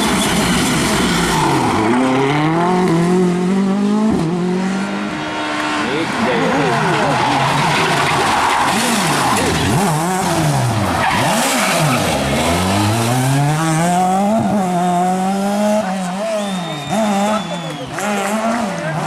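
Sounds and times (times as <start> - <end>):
rally car engine revving: 0.0 - 19.0
tyres skidding: 0.0 - 19.0.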